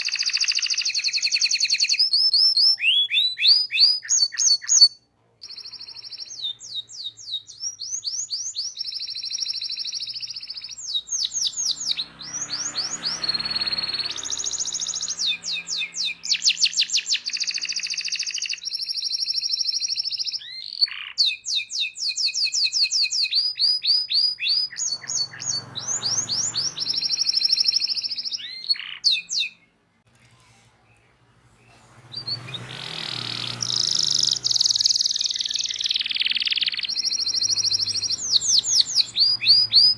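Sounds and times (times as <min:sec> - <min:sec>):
canary singing trills: 0:00.0 - 0:29.8, 0:30.9 - 0:39.9.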